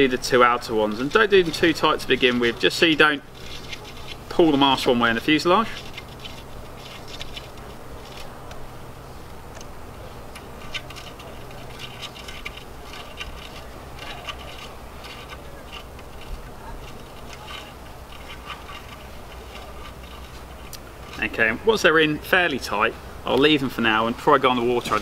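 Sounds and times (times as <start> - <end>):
key ticking and scraping bolts: 0.2 - 8.6, 9.5 - 21.5.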